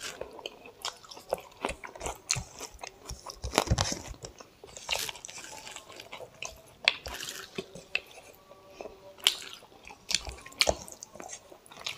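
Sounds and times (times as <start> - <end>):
close-up chewing with mouth clicks: 0.0 - 11.9
fingers mixing rice on plate: 0.0 - 11.9.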